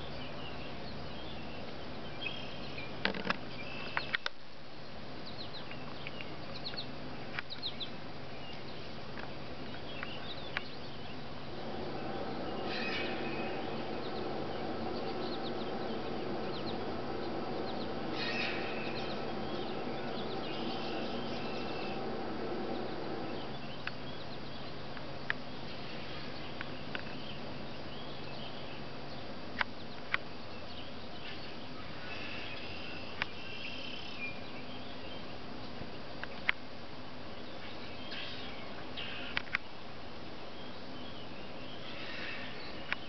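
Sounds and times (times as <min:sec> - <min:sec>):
songbirds chirping: 0:00.0 - 0:43.0
steady low hum: 0:00.0 - 0:43.0.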